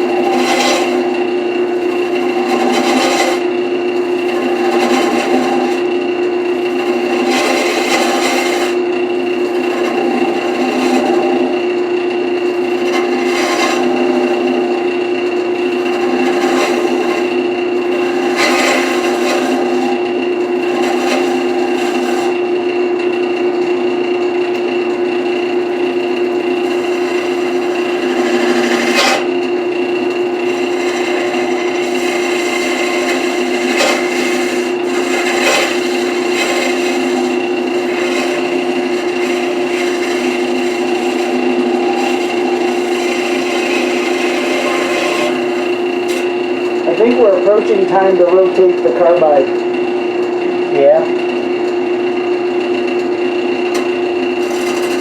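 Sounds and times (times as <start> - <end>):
turning tool scraping wood: 0.0 - 49.8, 53.7 - 55.0
wood lathe humming: 0.0 - 55.0.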